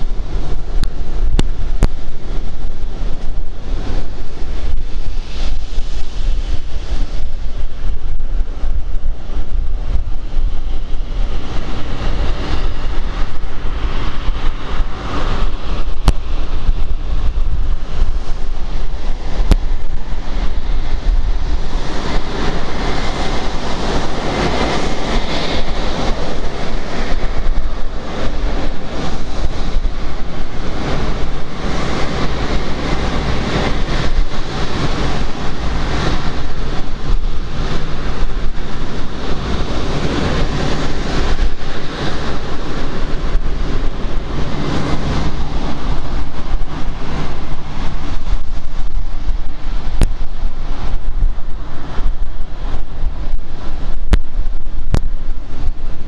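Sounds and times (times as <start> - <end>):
jet engines of taxiing airliner: 0.0 - 56.0.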